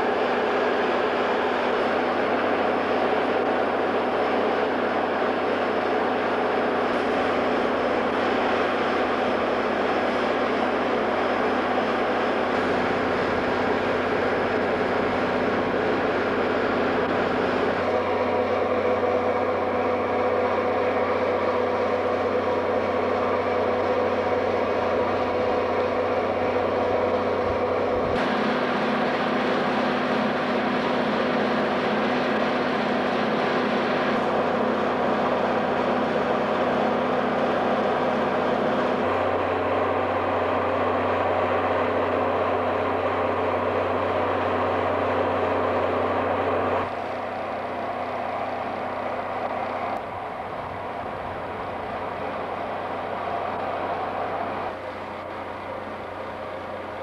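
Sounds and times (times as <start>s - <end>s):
diesel locomotive idling: 0.0s - 57.0s.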